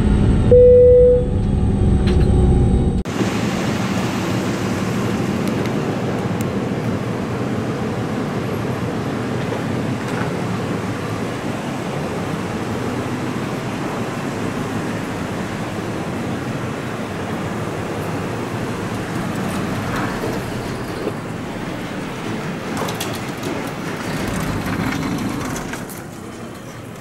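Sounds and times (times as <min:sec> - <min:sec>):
road traffic noise: 0:01.7 - 0:27.0.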